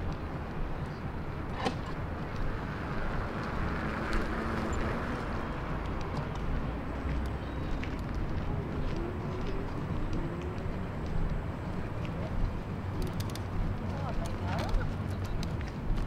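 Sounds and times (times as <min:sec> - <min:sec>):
distant traffic hum: 0:00.0 - 0:16.0
street noise: 0:00.0 - 0:16.0.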